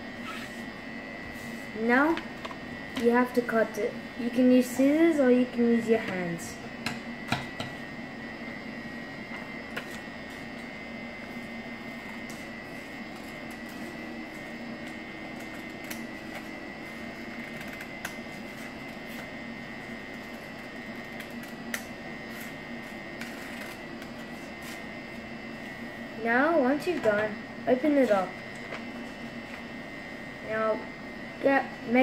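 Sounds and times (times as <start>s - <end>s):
background hum: 0.0s - 32.0s.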